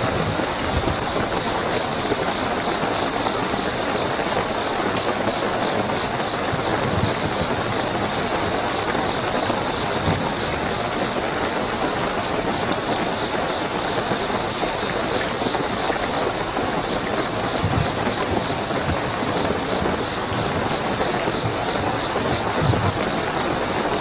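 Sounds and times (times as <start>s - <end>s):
heavy rainfall: 0.0s - 24.0s
high-pitched cricket chirring: 0.0s - 24.0s.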